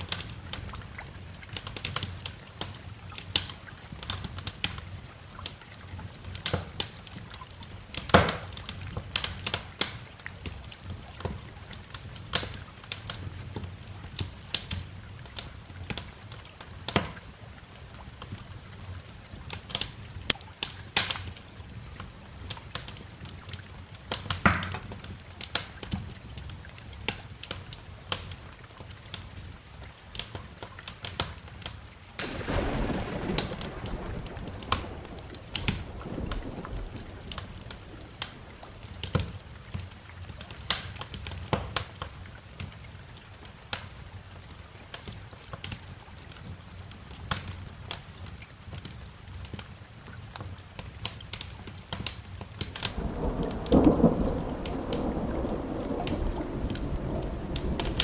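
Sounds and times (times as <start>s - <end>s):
wood fire crackling and popping: 0.0s - 17.3s, 19.2s - 58.0s
rain: 0.0s - 58.0s.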